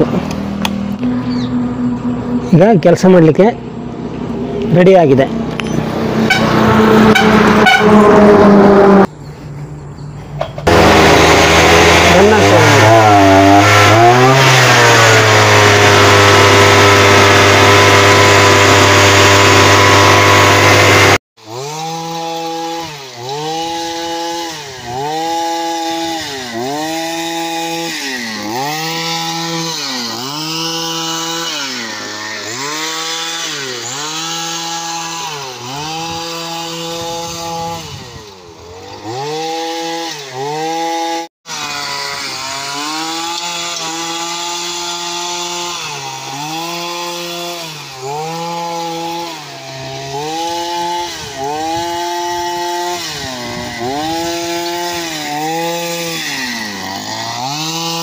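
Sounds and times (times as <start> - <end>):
brush cutter engine revving: 0.0 - 9.1, 10.6 - 58.0.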